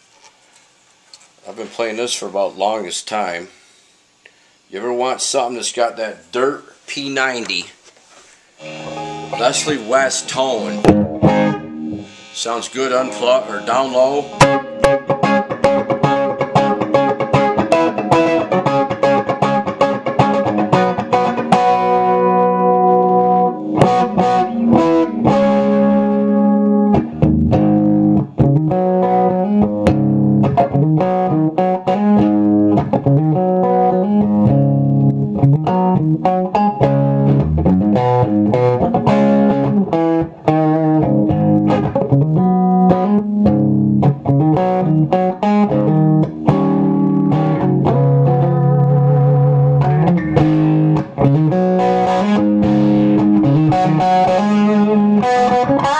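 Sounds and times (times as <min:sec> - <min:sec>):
overdriven electric guitar: 0:08.6 - 0:55.9.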